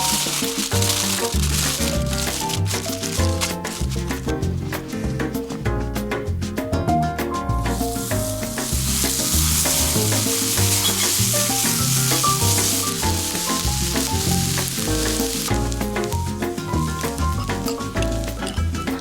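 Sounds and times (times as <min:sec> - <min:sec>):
steak sizzling in hot pan: 0:00.0 - 0:05.6, 0:07.6 - 0:19.0
background music: 0:00.0 - 0:19.0.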